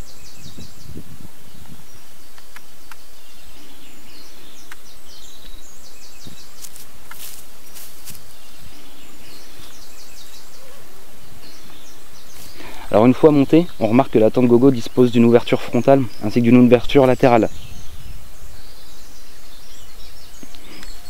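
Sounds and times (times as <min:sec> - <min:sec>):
songbird high trill: 0:00.0 - 0:21.0
steady background hiss: 0:00.0 - 0:21.0.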